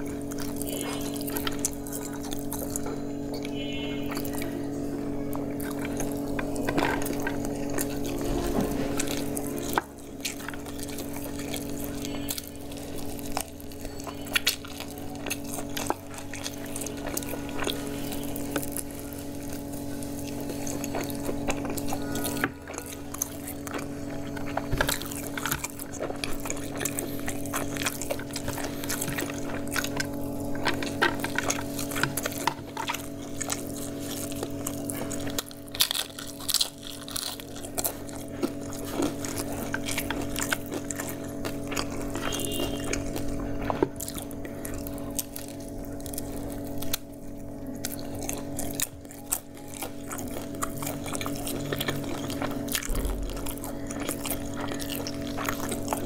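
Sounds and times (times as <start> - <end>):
fingers squishing oily rice: 0.0 - 56.0
low drone of held tones: 0.0 - 56.0
wet chewing: 0.0 - 56.0.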